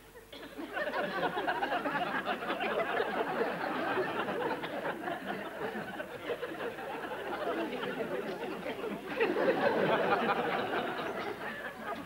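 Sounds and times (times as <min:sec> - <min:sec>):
audience laughing: 0:00.2 - 0:12.0.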